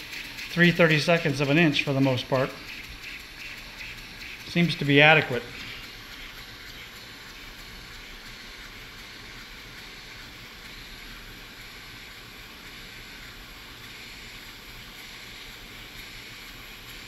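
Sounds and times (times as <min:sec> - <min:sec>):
air hissing through valve: 0:00.0 - 0:17.0
model engine ticking over: 0:00.0 - 0:17.0.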